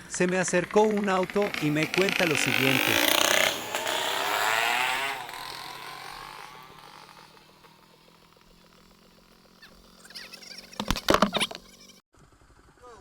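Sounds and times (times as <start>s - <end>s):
vehicle engine moving off: 0.0s - 12.7s.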